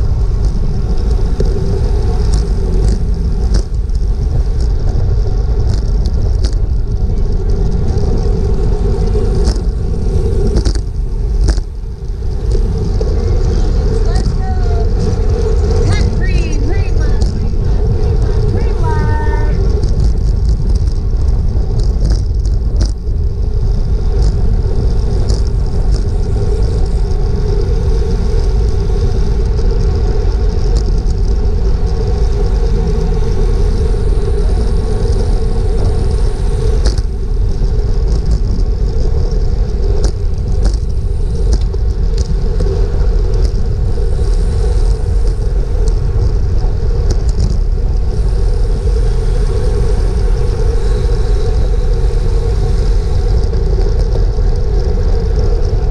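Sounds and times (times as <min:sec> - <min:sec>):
road and tyre noise: 0:00.0 - 0:55.9
wind rumbling on microphone: 0:00.0 - 0:55.9.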